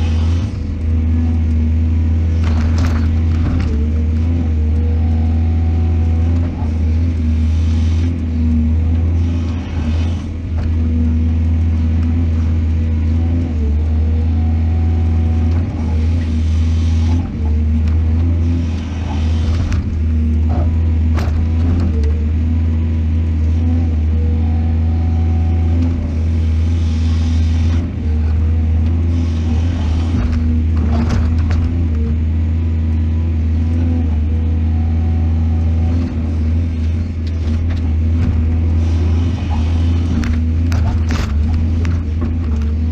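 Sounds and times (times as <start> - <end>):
excavator diesel engine humming: 0.0 - 42.9.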